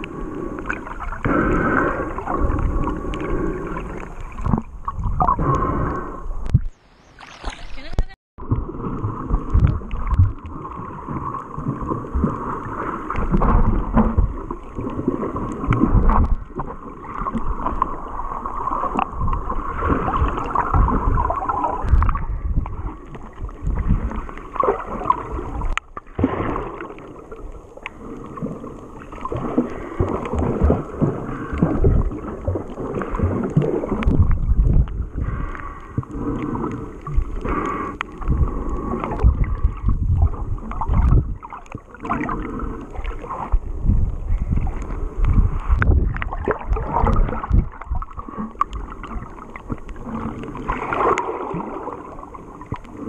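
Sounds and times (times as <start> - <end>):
muffled underwater water sloshing: 0.0 - 53.0.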